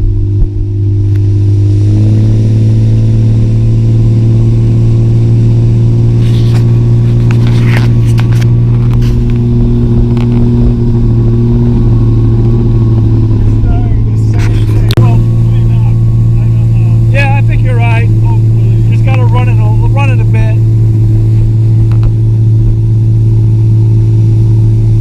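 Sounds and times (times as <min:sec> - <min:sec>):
motorboat engine humming: 0:00.0 - 0:25.0.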